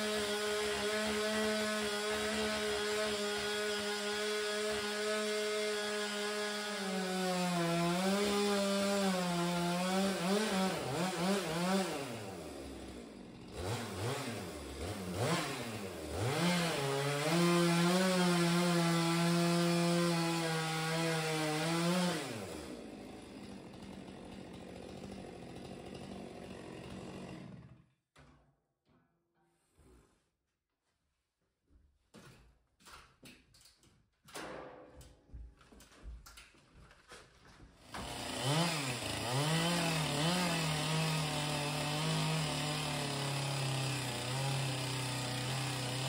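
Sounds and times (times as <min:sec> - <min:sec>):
chainsaw cutting wood: 0:00.0 - 0:28.0, 0:37.0 - 0:46.0.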